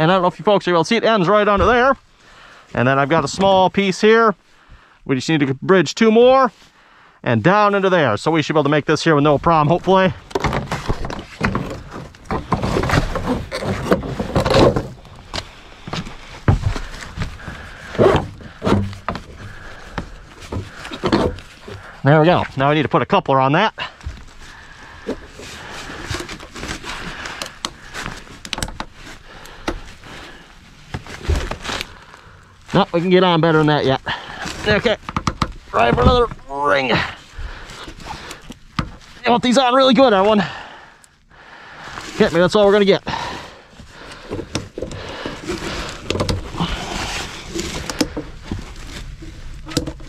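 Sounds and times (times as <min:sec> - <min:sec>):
rustling handling noise: 0:08.9 - 0:23.3, 0:23.9 - 0:50.0.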